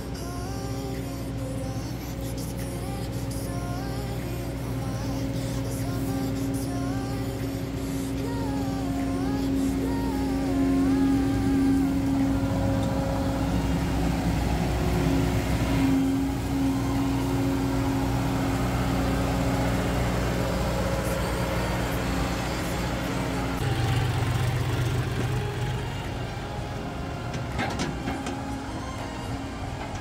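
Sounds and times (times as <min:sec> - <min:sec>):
combine harvester engine running: 0:00.0 - 0:30.0
tractor engine running: 0:00.0 - 0:30.0.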